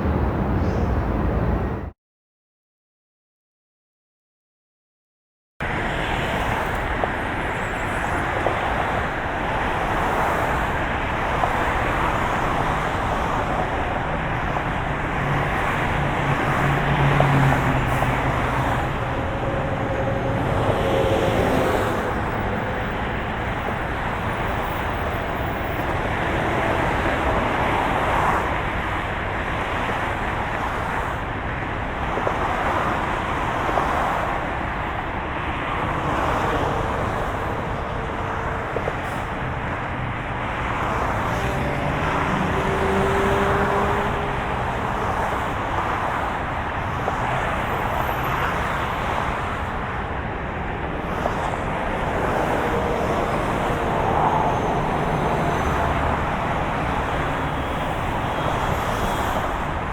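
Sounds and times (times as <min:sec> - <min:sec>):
car road and engine noise: 0:00.0 - 0:02.0, 0:05.6 - 0:59.9.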